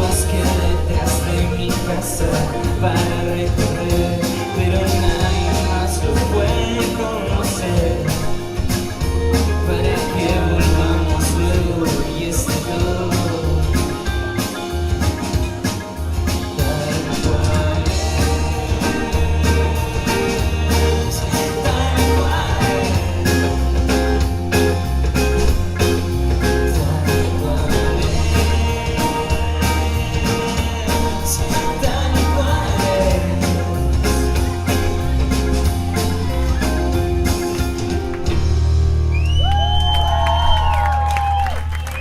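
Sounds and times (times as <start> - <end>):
bass line: 0.0 - 42.0
drum beat: 0.0 - 42.0
rock band playing: 0.0 - 42.0.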